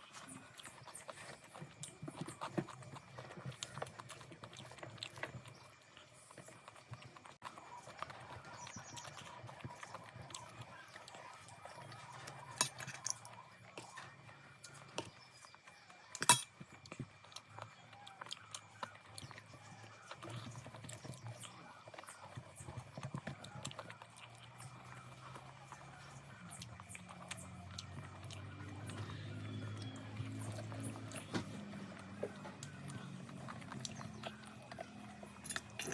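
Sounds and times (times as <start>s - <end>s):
person chewing: 0.0s - 14.0s, 16.1s - 35.9s.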